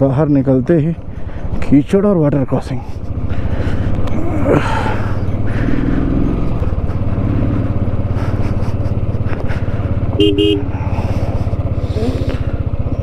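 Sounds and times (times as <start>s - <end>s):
motorcycle engine running: 0.4s - 13.0s.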